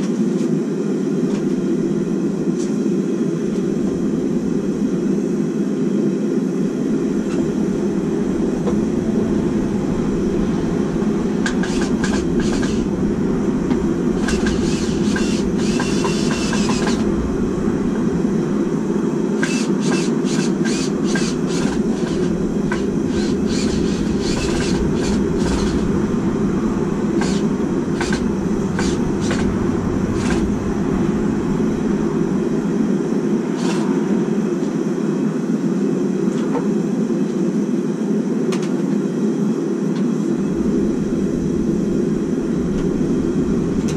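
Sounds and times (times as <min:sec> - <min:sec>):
steady low roar: 0:00.9 - 0:36.9, 0:40.0 - 0:43.9.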